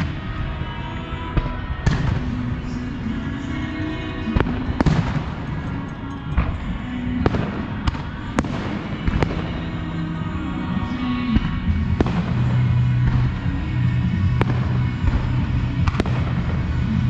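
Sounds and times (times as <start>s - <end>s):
fireworks bangs: 0.0s - 17.0s
fireworks crackle and rumble: 0.0s - 17.0s
music playing: 0.0s - 17.0s.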